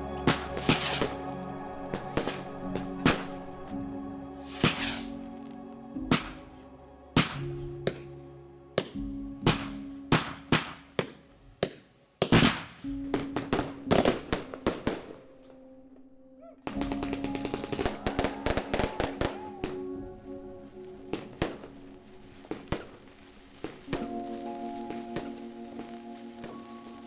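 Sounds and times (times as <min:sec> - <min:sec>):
soft background music: 0:00.0 - 0:27.0
fireworks bangs and crackles: 0:00.2 - 0:03.7, 0:04.4 - 0:06.5, 0:07.2 - 0:08.0, 0:08.8 - 0:15.2, 0:16.7 - 0:27.0.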